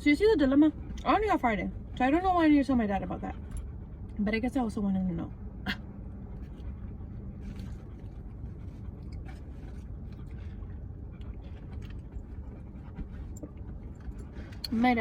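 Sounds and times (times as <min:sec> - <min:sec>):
car cabin engine rumble: 0:00.0 - 0:15.0.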